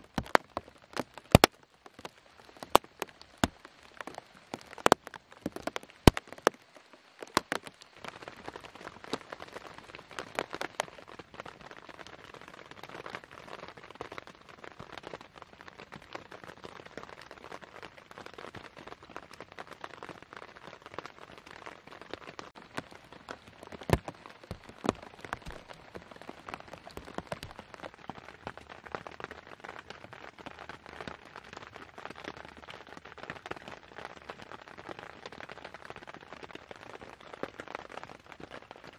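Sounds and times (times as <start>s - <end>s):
rain pattering on tent: 0.0s - 38.9s.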